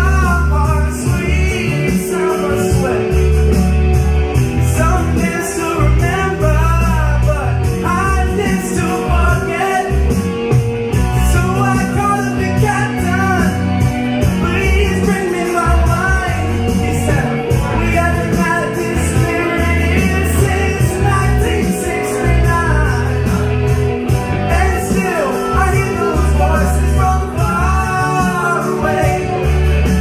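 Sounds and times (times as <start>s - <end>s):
person singing into a microphone: 0.0s - 3.5s, 4.6s - 30.0s
loud backing music with heavy bass: 0.0s - 30.0s.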